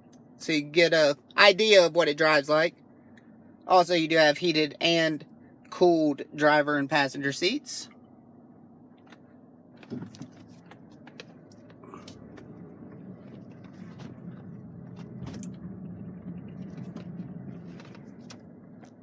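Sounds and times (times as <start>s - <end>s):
engine and road hum: 0.0s - 19.0s.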